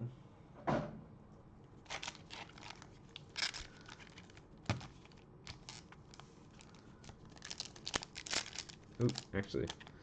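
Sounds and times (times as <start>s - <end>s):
foil wrapper crinkling: 1.8s - 10.0s.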